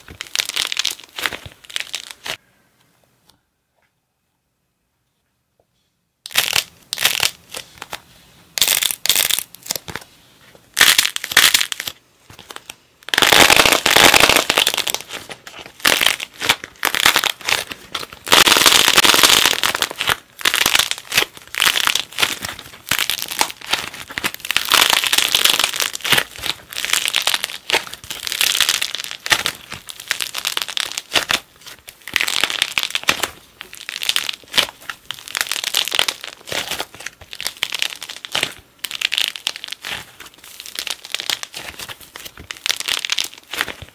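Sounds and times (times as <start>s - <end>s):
hardened clay crunching and crackling: 0.0s - 2.5s, 6.2s - 43.9s
clay being squeezed and kneaded: 0.0s - 3.2s, 6.1s - 43.9s.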